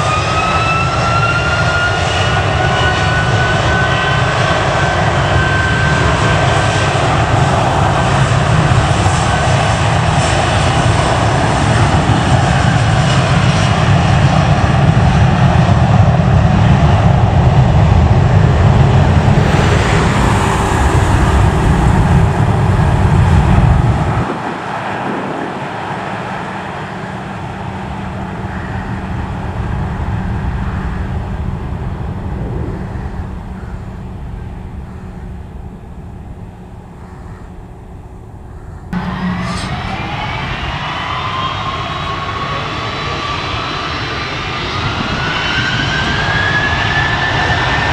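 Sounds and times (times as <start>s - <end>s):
jet engines at takeoff: 0.0s - 47.9s.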